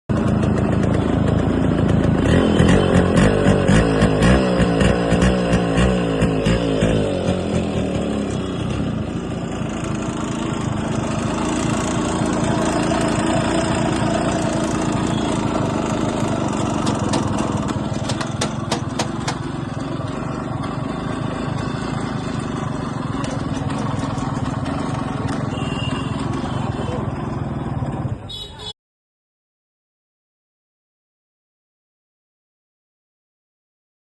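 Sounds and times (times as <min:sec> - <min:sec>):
two-stroke engine idling: 0:00.1 - 0:28.7.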